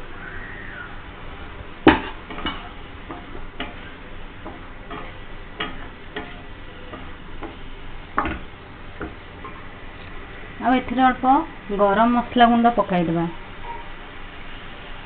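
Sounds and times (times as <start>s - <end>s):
low sizzle: 0.0s - 15.0s.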